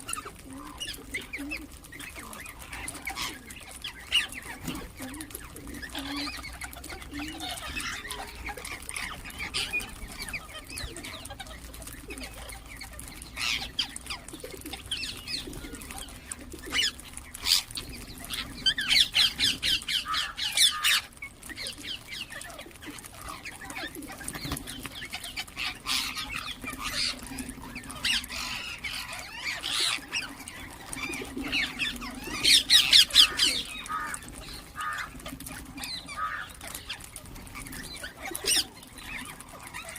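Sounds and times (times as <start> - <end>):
parakeets chirping and calling: 0.0 - 39.9.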